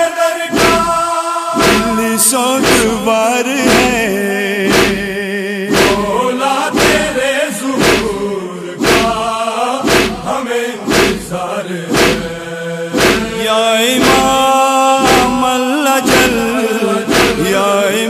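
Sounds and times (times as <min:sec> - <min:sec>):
men chanting a lament: 0:00.0 - 0:18.0
chest-beating thuds: 0:00.5 - 0:17.6.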